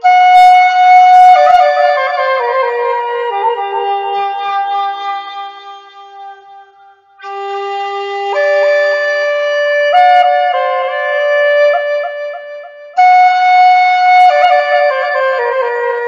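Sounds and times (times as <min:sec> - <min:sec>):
flute slow melody: 0:00.0 - 0:16.0.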